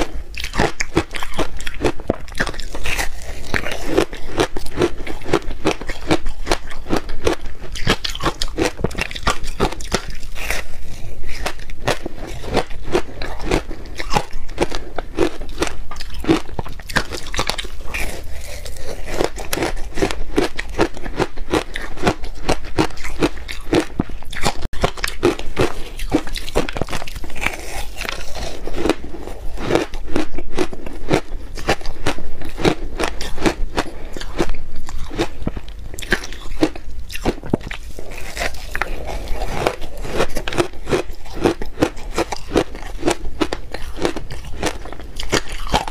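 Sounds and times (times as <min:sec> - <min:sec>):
crunching ice while chewing: 0:00.0 - 0:45.9.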